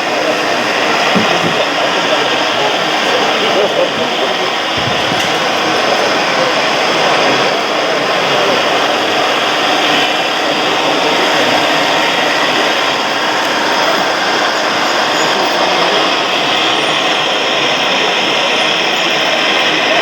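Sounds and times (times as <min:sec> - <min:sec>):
small electric motors whirring: 0:00.0 - 0:20.0.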